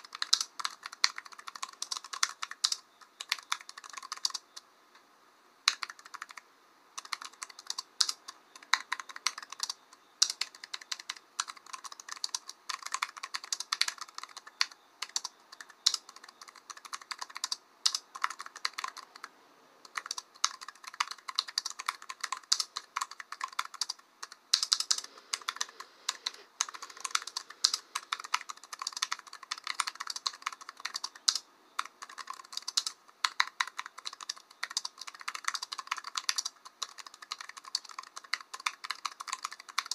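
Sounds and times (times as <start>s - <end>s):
computer keyboard typing: 0.0s - 4.6s, 5.6s - 6.4s, 7.0s - 39.9s.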